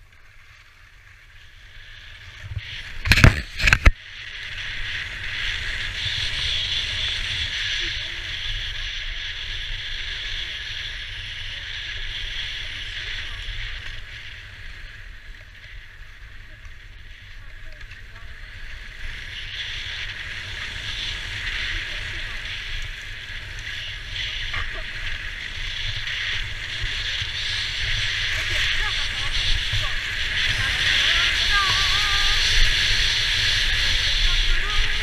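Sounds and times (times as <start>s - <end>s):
wind rumble on microphone: 1.2s - 35.0s
skis hissing on snow: 1.4s - 35.0s.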